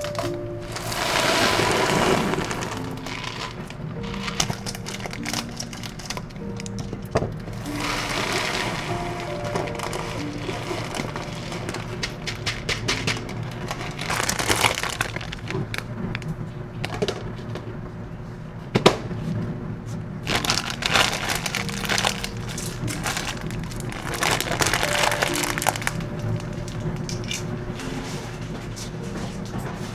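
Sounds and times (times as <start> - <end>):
crackling and crinkling: 0.0 - 18.0, 19.0 - 29.9
soft background music: 0.0 - 18.6, 19.3 - 29.9.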